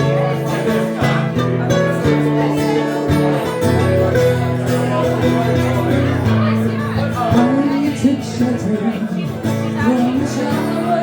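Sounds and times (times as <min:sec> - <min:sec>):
acoustic folk instrumental: 0:00.0 - 0:11.0.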